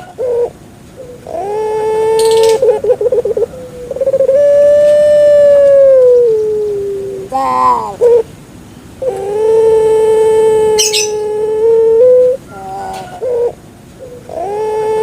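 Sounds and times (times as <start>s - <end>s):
dove cooing: 0.0s - 8.3s, 9.0s - 15.0s.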